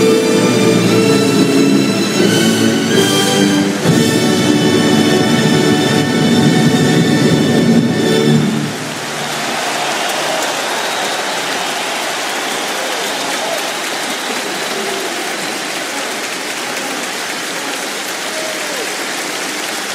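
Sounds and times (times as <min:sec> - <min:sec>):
stadium crowd cheering: 0:00.0 - 0:19.9.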